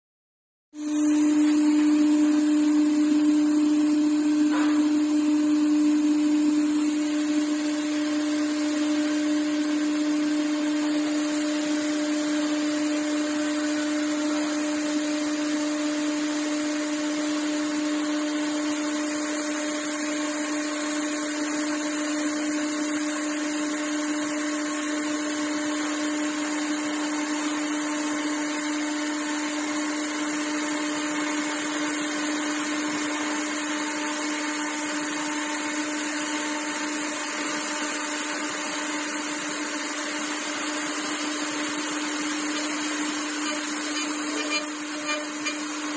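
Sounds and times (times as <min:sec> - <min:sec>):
router spindle whine: 0:00.8 - 0:45.9.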